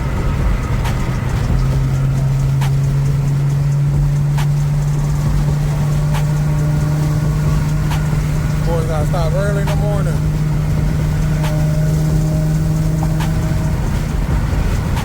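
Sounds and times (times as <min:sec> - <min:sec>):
car engine drone: 0:00.0 - 0:15.0
road and tyre rumble: 0:00.0 - 0:15.0.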